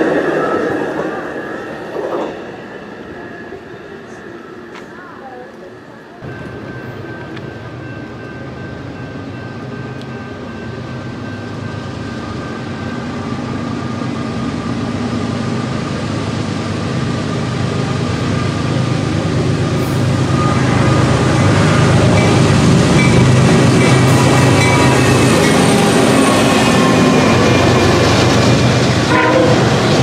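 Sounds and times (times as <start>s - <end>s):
diesel locomotive engine rumble: 0.0s - 30.0s.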